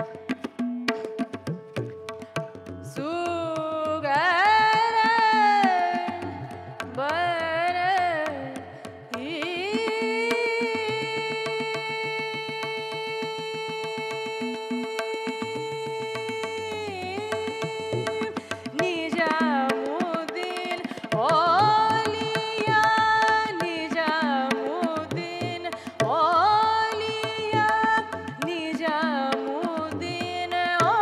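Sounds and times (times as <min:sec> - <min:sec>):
tabla strokes: 0:00.0 - 0:31.0
woman singing: 0:02.9 - 0:31.0.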